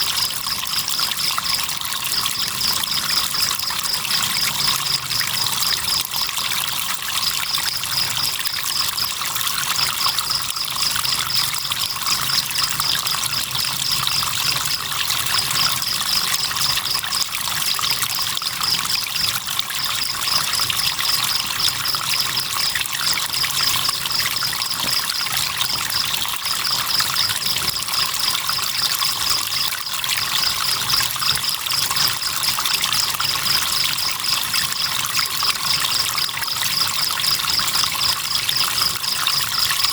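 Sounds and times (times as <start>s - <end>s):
cricket chirping: 0.0s - 39.9s
river water trickling: 0.0s - 39.9s.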